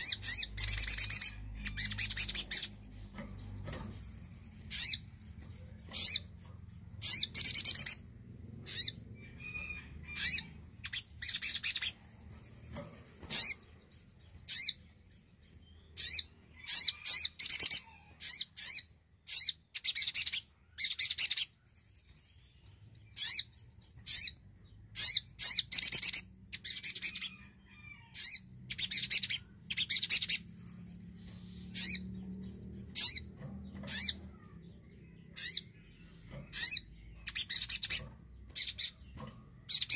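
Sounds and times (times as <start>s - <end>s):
bird high chirps: 0.0s - 39.9s.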